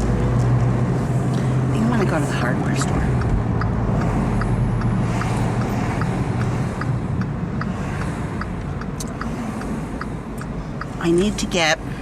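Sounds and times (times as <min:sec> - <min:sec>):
engine and road rumble: 0:00.0 - 0:12.0
turn signal ticking: 0:00.0 - 0:12.0.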